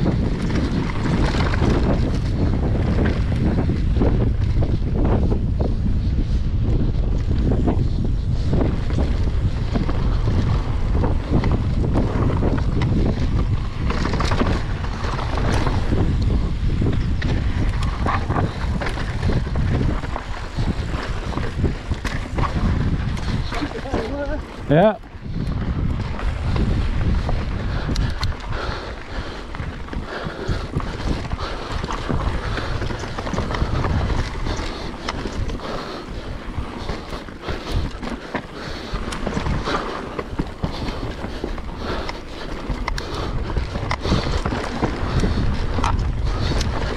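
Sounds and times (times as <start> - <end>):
bike clicks and rattles: 0.0 - 46.9
bike tyre noise: 0.0 - 46.9
wind buffeting microphone: 0.0 - 46.9.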